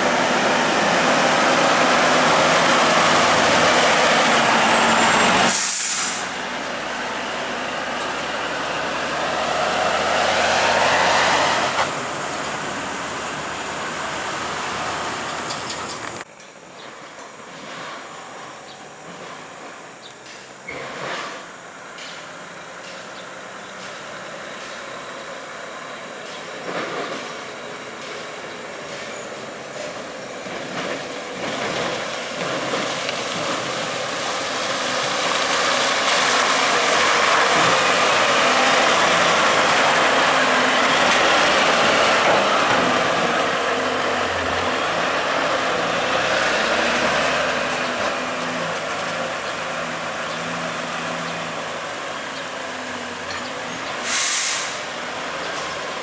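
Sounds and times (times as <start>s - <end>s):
heavy truck driving past: 0.0s - 16.3s, 22.8s - 56.0s.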